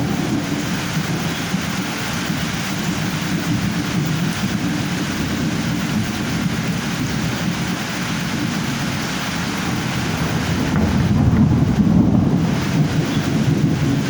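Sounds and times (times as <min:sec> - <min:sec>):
heavy rain and wind rushing: 0:00.0 - 0:14.0.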